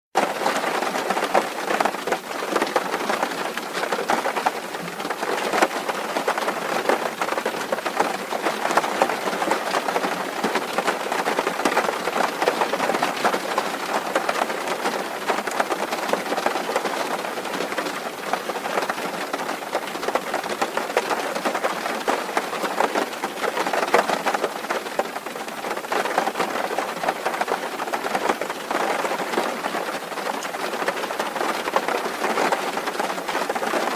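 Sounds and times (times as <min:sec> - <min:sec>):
rain on a tin roof: 0:00.2 - 0:33.9.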